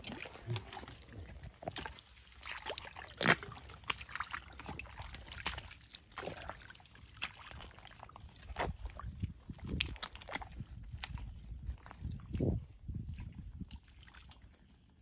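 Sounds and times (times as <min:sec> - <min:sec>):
footsteps squelching in mud: 0:00.0 - 0:15.0.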